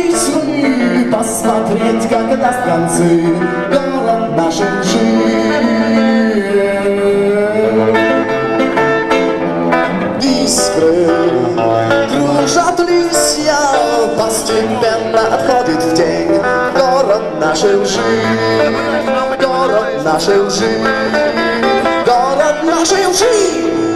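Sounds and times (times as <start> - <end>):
live rock band playing: 0.0 - 23.9
man singing: 0.0 - 23.9.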